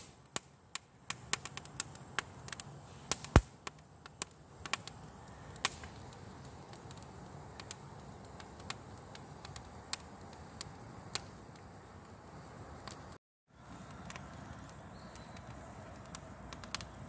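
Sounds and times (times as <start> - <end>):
campfire crackling and snapping: 0.0 - 17.0.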